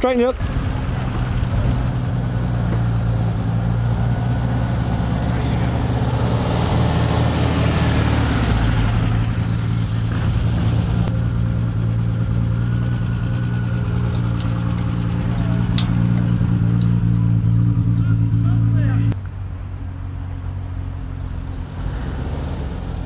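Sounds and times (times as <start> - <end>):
car engine running at low revs: 0.0 - 23.0.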